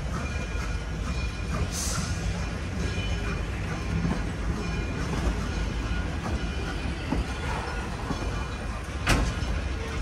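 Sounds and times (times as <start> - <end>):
steel wheels rumbling on rail: 0.0 - 10.0.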